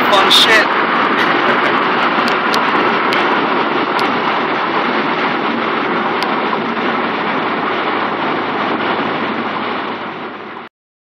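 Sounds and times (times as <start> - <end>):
car cabin engine and road noise: 0.0 - 10.7.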